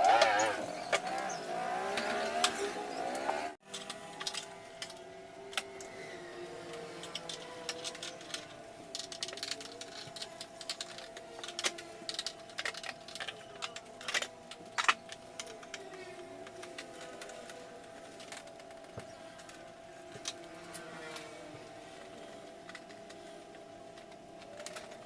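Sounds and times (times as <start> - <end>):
faint hum: 0.0 - 25.0.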